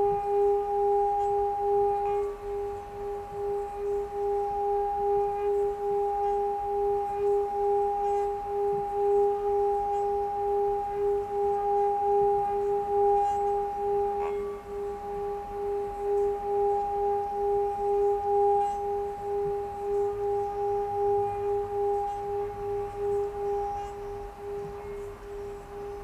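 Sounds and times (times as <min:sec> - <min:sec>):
singing bowl ringing: 0:00.0 - 0:26.0.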